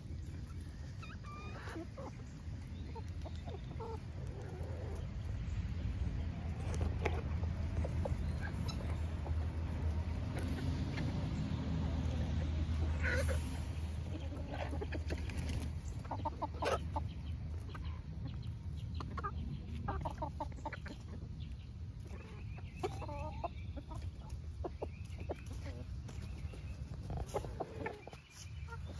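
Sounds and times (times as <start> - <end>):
hens clucking: 0.0 - 28.9.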